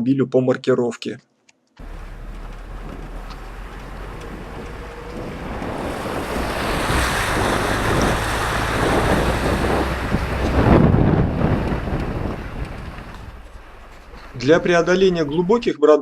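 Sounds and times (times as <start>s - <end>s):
rushing noise: 1.8s - 15.6s
vehicle engine rumble: 1.8s - 15.7s.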